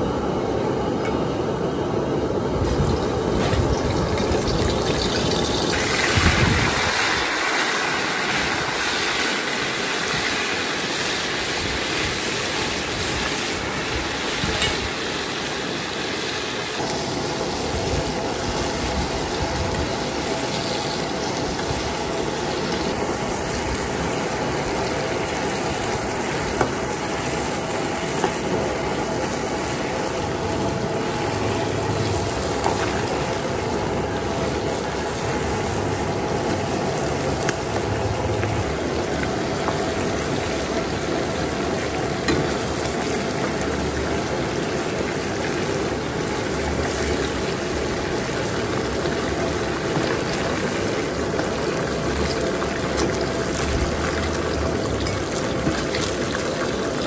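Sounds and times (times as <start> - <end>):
oil sizzling and bubbling: 0.0 - 57.0.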